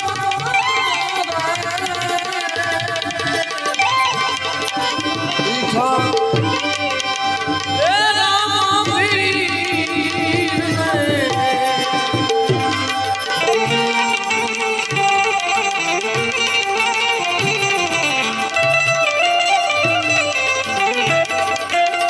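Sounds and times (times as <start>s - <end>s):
folk music melody: 0.0s - 22.0s
tabla playing a quick rhythm: 0.0s - 22.0s.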